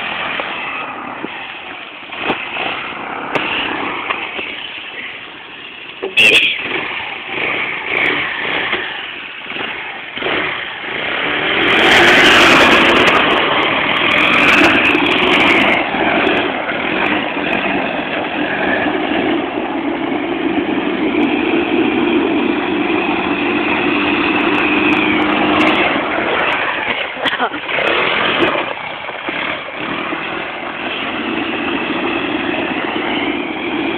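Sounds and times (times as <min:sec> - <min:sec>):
atv engine cranking and running: 0:00.0 - 0:33.9.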